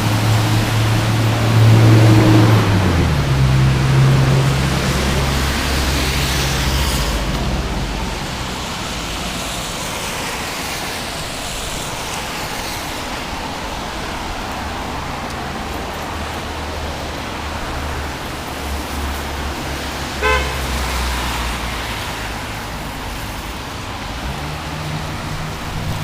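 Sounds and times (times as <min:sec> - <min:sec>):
road noise hiss: 0:00.0 - 0:26.0
vehicle engine hum: 0:00.0 - 0:26.0.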